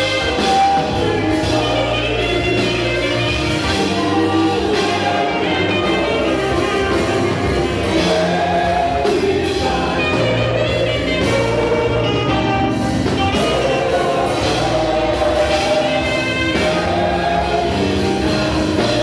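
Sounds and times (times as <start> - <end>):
gospel band playing: 0.0 - 19.0
saxophone lead: 0.0 - 19.0.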